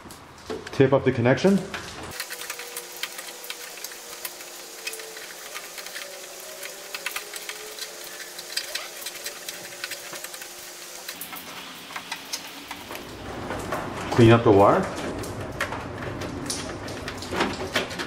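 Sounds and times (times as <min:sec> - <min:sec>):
tape and wires crackling: 0:01.5 - 0:18.0.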